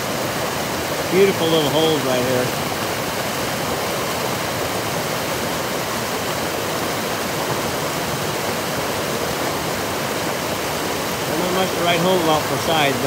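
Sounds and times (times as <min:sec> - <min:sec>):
creek pouring over a log: 0:00.0 - 0:13.0.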